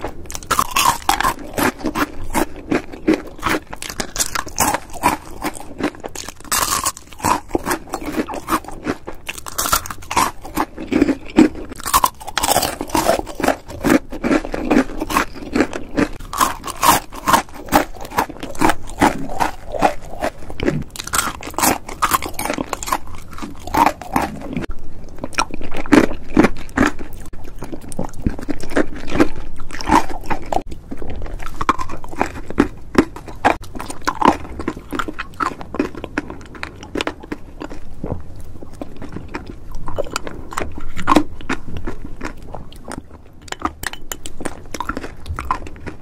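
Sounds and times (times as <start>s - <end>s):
crunching sweets: 0.0s - 46.0s
soft chewing from a spoon: 0.1s - 46.0s.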